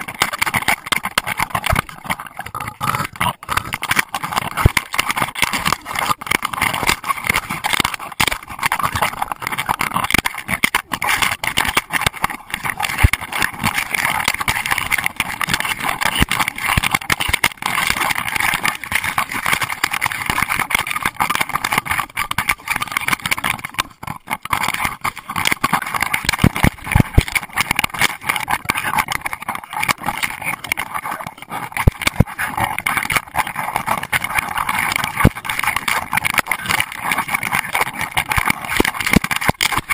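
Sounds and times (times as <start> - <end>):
camera housing rattling and knocking: 0.0 - 31.0, 31.7 - 39.9.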